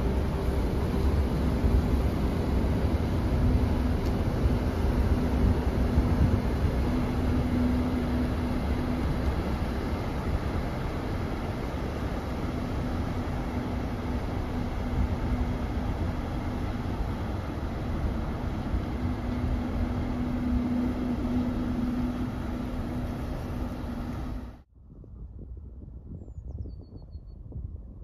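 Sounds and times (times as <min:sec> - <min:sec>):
ship engine rumble: 0:00.0 - 0:24.7.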